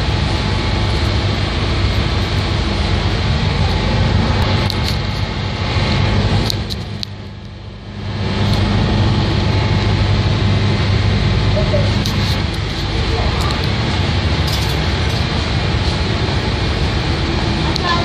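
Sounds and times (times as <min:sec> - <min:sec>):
ferry engines droning: 0:00.0 - 0:18.0
water rushing along hull: 0:00.0 - 0:18.0.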